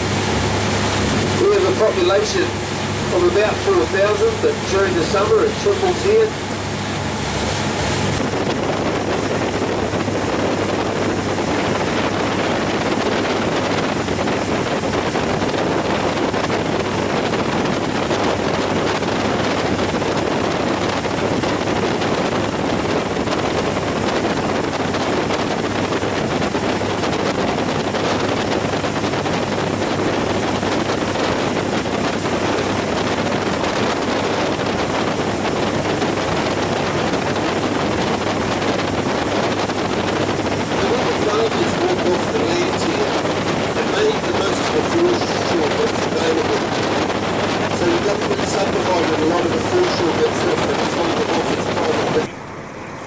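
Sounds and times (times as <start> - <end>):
wind rushing over microphone: 0.0 - 52.3
boat engine hum: 0.0 - 53.0.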